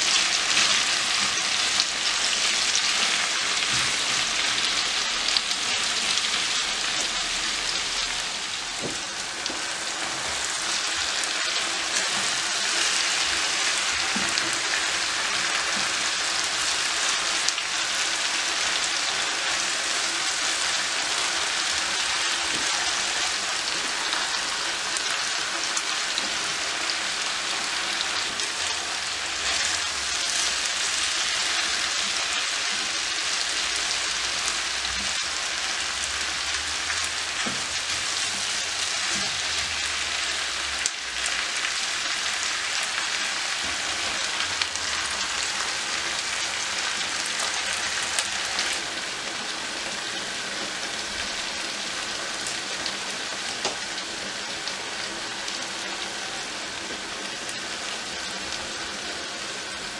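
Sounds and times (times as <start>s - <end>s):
food sizzling in frying pan: 0.0s - 59.9s.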